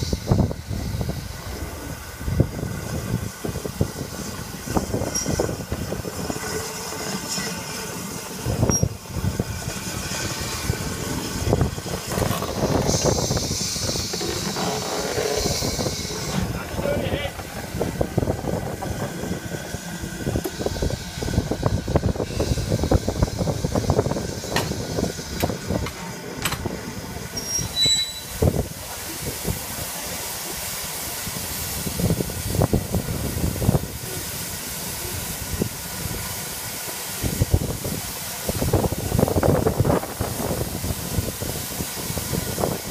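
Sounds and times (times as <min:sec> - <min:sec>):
steam hiss: 0:00.0 - 0:42.9
steam locomotive rumble: 0:00.0 - 0:42.9.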